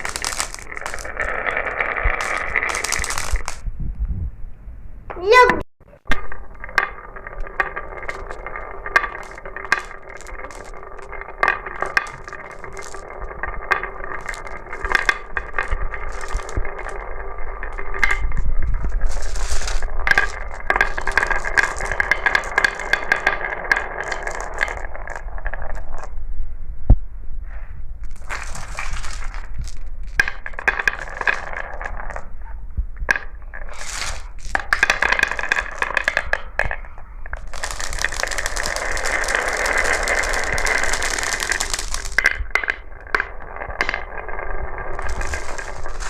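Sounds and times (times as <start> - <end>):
marbles rolling down a track: 0.0 - 3.6, 6.1 - 26.2, 28.0 - 32.3, 33.0 - 46.0
sharp marble clicks: 0.0 - 3.7, 5.1 - 26.1, 28.0 - 32.3, 33.0 - 46.0.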